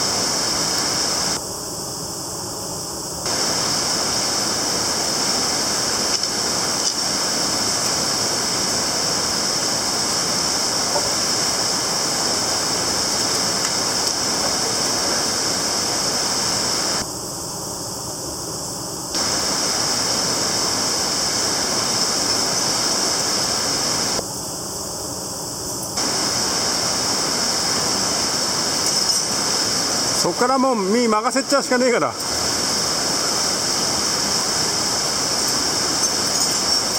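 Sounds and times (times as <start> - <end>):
stream water rushing: 0.0 - 1.4, 3.2 - 17.0, 19.2 - 24.2, 26.0 - 36.9.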